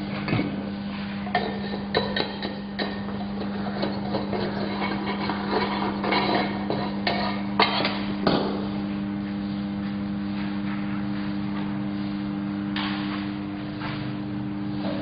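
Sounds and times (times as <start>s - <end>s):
arc welder humming: 0.0s - 15.0s.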